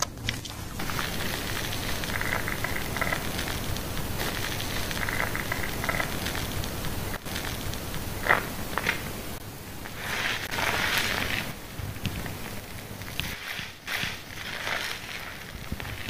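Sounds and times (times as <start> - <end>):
shampoo lather crackling and squishing: 0.0 - 16.0
rubbing hiss: 0.7 - 16.0.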